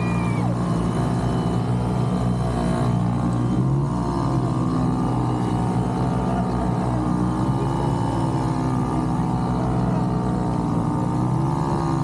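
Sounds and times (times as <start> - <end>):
small boat engines droning: 0.0 - 12.0.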